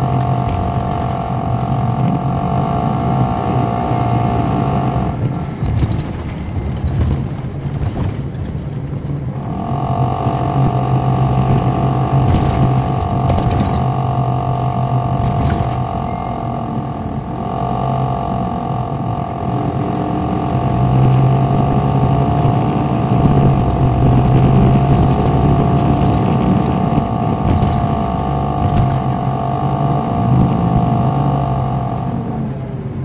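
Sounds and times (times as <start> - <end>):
diesel engine hum and whine: 0.0 - 33.0.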